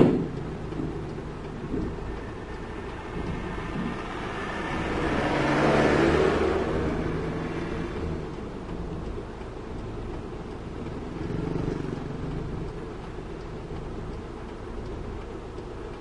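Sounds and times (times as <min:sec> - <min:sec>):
diesel trucks passing: 0:00.0 - 0:16.0.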